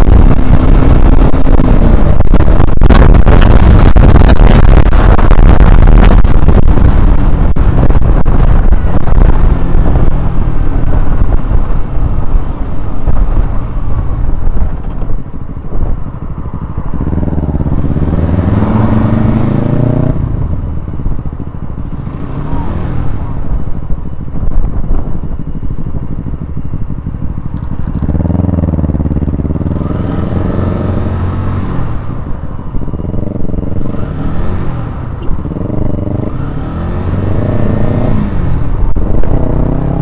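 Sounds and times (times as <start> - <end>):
motorcycle engine running: 0.0 - 40.0
wind noise on microphone: 0.0 - 40.0.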